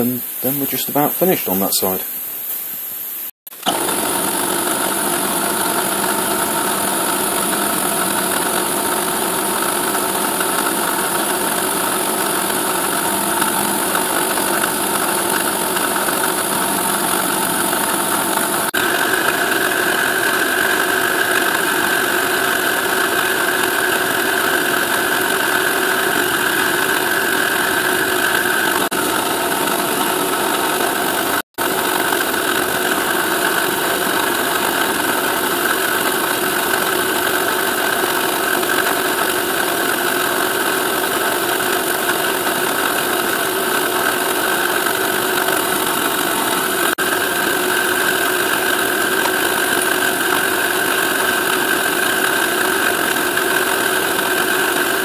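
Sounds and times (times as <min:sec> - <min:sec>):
milling machine cutting metal: 0:00.0 - 0:55.0.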